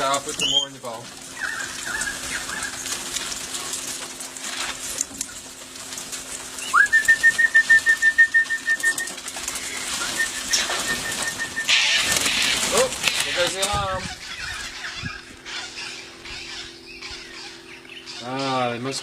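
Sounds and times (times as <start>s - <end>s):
bird alarm call: 0.0s - 3.1s, 6.6s - 19.0s.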